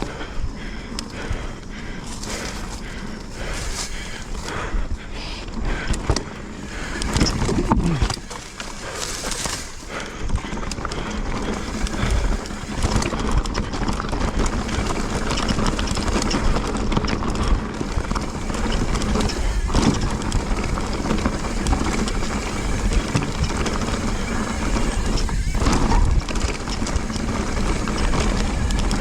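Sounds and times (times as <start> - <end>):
bike rattling and knocking: 0.0 - 29.0
tyres on dirt: 0.0 - 29.0.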